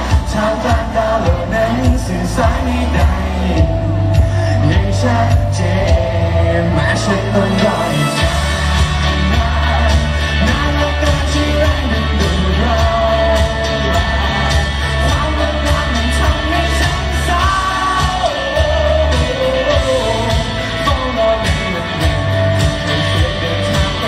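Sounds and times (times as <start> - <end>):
man singing into microphone: 0.0 - 24.0
pop backing track with heavy bass: 0.0 - 24.0.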